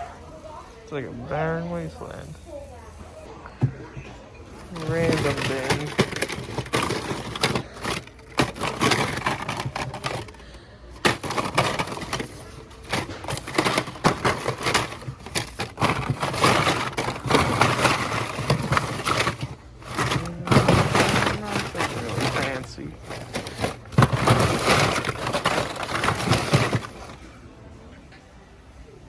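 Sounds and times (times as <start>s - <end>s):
plastic packaging clicks and rattles: 3.6s - 27.3s.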